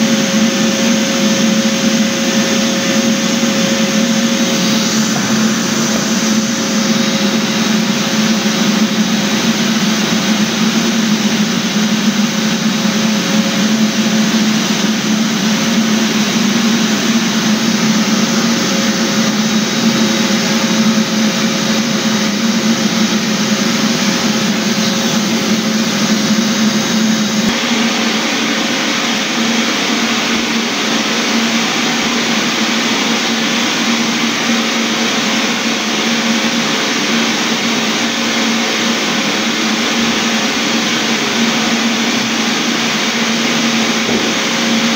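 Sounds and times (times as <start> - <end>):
floor sander motor hum: 0.0 - 44.9.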